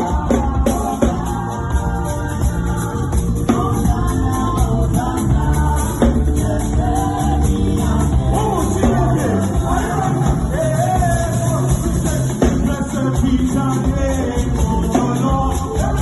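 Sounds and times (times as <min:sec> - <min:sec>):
bass guitar: 0:00.0 - 0:16.0
drum kit: 0:00.0 - 0:16.0
people singing: 0:00.0 - 0:16.0.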